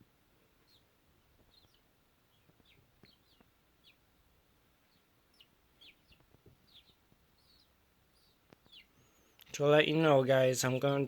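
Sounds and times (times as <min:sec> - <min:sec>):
nestling birds cheeping: 0:00.0 - 0:11.0.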